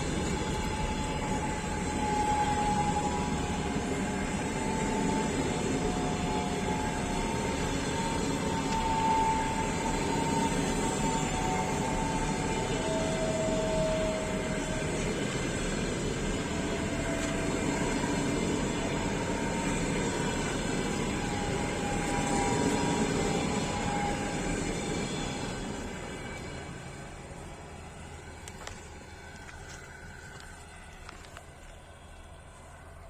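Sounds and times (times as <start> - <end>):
faint whines: 0.0 - 33.0
train rumbling on rails: 0.0 - 33.0.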